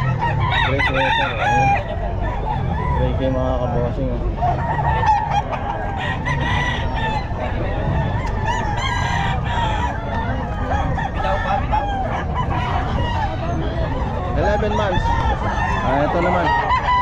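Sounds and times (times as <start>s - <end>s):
low background rumble: 0.0s - 17.0s
roosters crowing and clucking: 0.0s - 17.0s.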